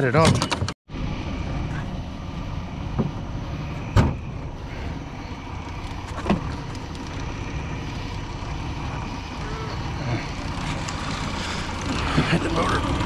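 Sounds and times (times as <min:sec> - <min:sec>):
boat motor idling: 0:01.5 - 0:13.0.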